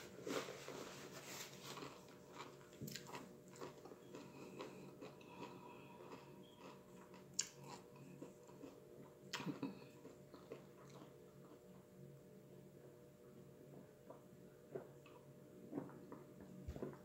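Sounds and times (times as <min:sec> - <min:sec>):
chewing crunchy tortilla chips: 0:01.5 - 0:12.0, 0:13.7 - 0:17.0.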